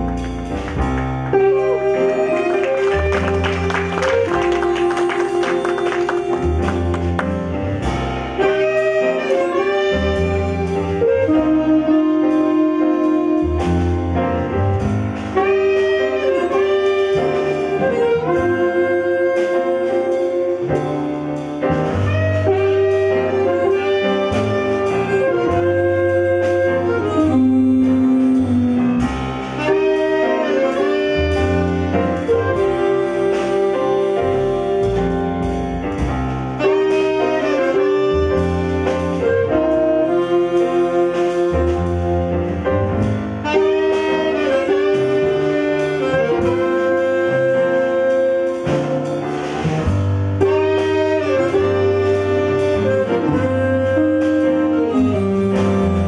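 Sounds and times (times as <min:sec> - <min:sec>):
saxophones playing melody: 0:00.0 - 0:14.6, 0:15.3 - 0:36.0, 0:36.6 - 0:56.0
piano: 0:00.0 - 0:56.0
upright double bass: 0:00.0 - 0:56.0.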